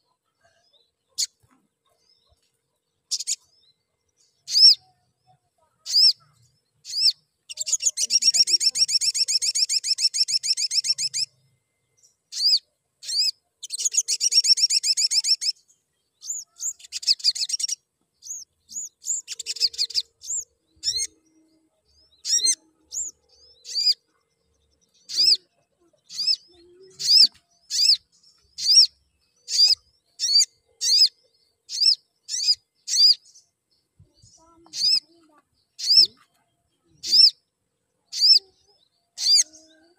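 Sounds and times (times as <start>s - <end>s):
bird singing high trills: 3.1s - 33.5s, 34.3s - 37.5s, 38.1s - 39.9s.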